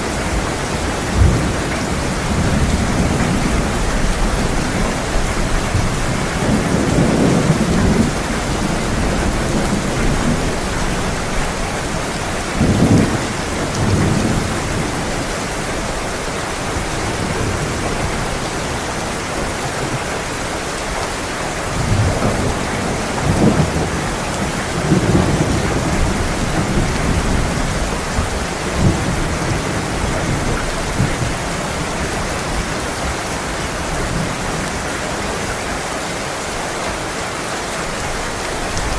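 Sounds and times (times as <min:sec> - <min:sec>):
thunder rumbling: 0:00.0 - 0:35.6
heavy rain: 0:00.0 - 0:38.9.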